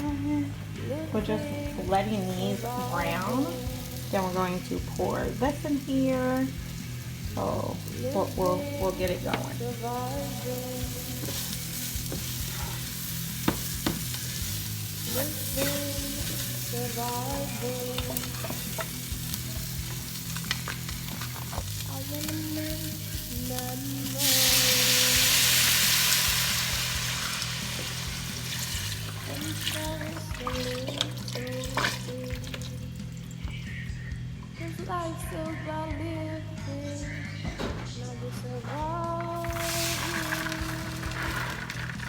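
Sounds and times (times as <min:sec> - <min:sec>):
food sizzling in a pot: 0:01.9 - 0:33.4, 0:39.4 - 0:42.0.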